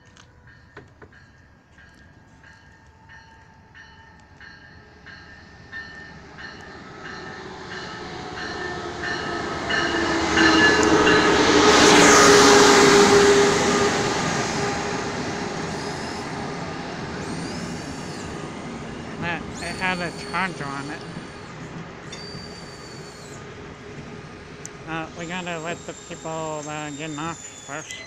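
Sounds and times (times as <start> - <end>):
train passing: 0.0 - 28.0.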